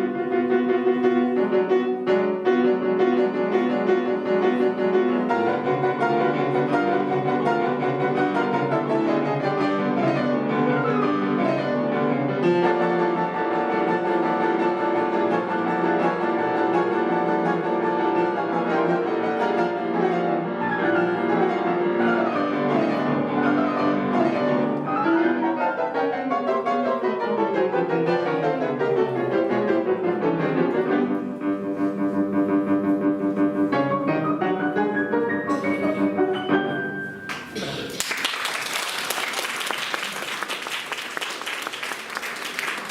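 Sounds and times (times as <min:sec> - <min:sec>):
piano duo playing classical music: 0:00.0 - 0:38.1.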